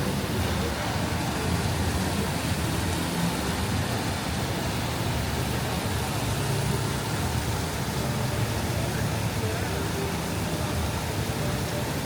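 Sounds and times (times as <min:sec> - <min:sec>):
road traffic rumble: 0:00.0 - 0:12.0
street hubbub: 0:00.0 - 0:12.0.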